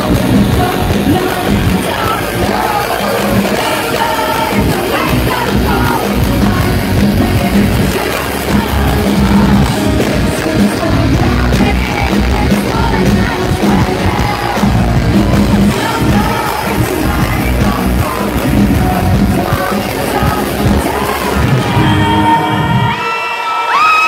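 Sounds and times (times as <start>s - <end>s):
man singing into microphone: 0.0s - 23.1s
drums: 0.0s - 24.0s
electric guitar: 0.0s - 24.0s.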